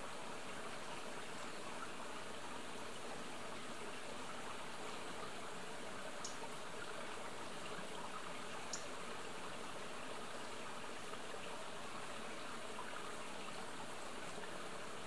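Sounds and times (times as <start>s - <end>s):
forest stream flowing: 0.0s - 15.0s.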